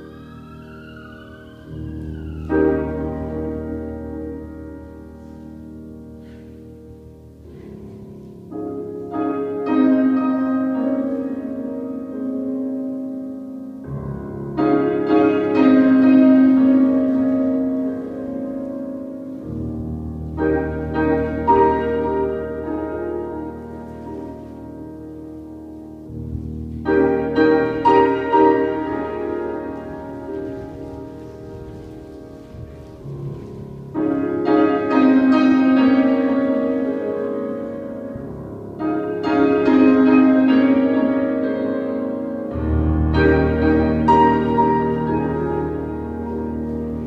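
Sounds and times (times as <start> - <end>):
slow piano music: 0.0 - 47.0.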